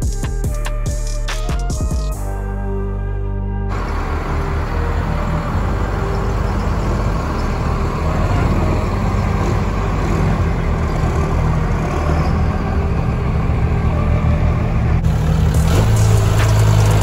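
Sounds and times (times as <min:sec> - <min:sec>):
truck engines rumbling: 0:00.0 - 0:17.0.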